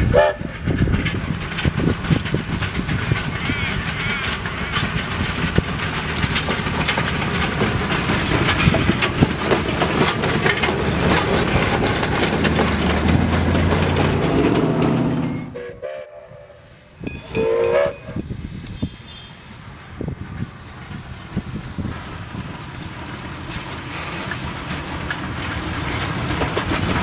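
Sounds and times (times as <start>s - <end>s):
wheels clattering over rail joints: 0.0s - 15.7s, 17.0s - 27.0s
steam locomotive steam noise: 0.0s - 27.0s.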